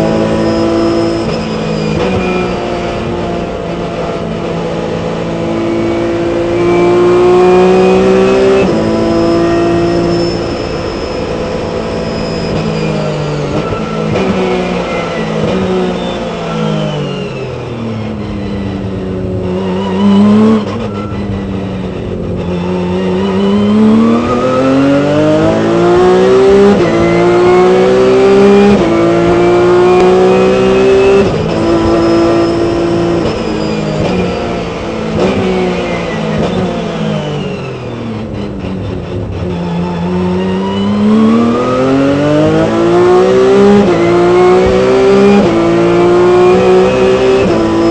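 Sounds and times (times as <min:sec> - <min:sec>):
race car engine revving through gears: 0:00.0 - 0:47.9.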